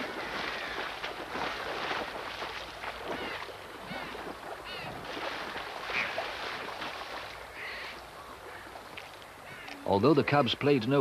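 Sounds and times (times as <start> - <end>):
stream water rushing and splashing: 0.0 - 11.0.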